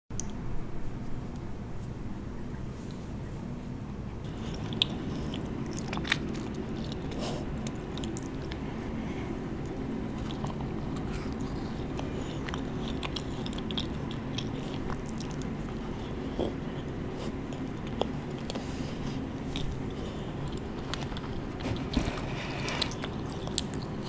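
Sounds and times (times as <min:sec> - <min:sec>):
steady low hum: 0:00.1 - 0:24.0
crunchy biting and chewing: 0:04.2 - 0:24.0.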